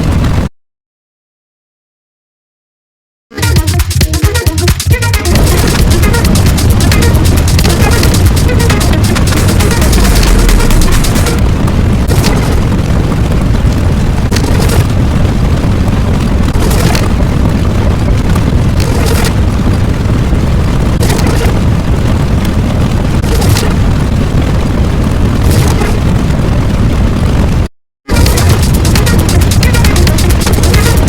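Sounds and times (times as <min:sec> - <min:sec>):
explosion-like rumble: 0:00.0 - 0:00.5, 0:03.4 - 0:31.0.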